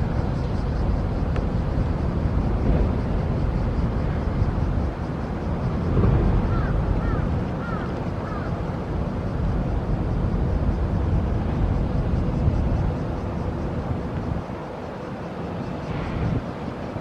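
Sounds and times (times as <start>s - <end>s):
ferry engine rumble: 0.0s - 16.8s.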